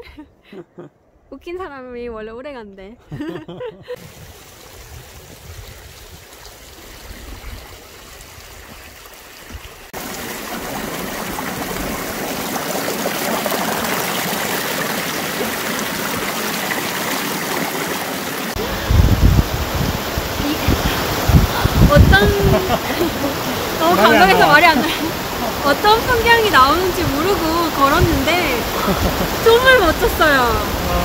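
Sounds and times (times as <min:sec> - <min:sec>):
stream rushing over rocks: 0:04.0 - 0:31.0.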